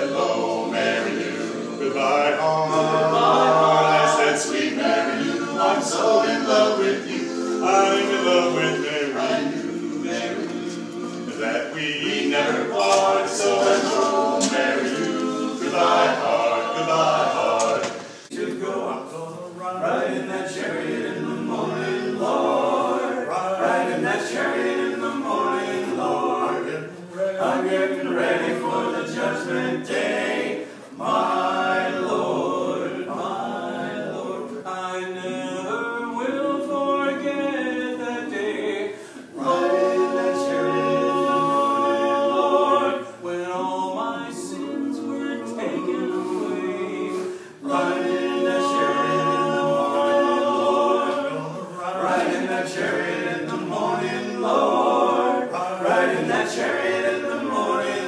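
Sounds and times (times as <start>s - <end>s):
men singing a cappella harmony: 0.0s - 58.0s.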